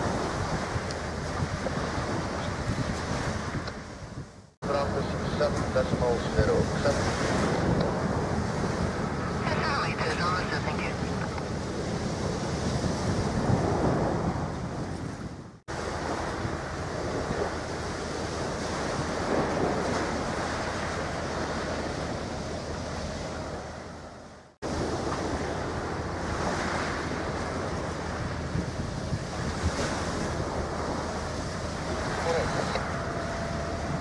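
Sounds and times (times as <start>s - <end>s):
wind on microphone: 0.0s - 34.0s.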